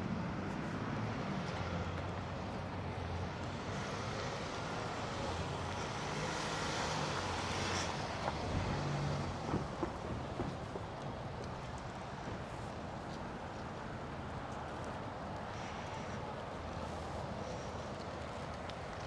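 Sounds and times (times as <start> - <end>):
road noise: 0.2 - 19.0.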